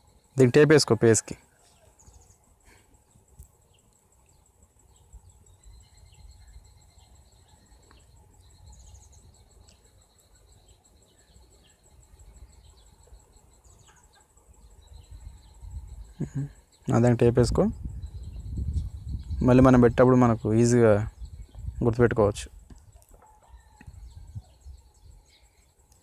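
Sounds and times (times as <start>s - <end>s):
high-pitched insect trill: 0.0s - 26.0s.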